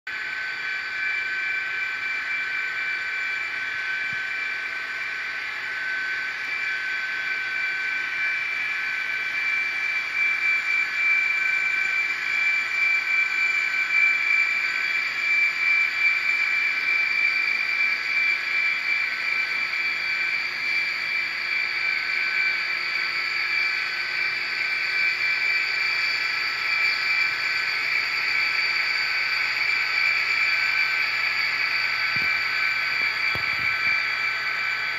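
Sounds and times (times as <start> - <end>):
model train diesel engine drone: 0.1 - 34.9.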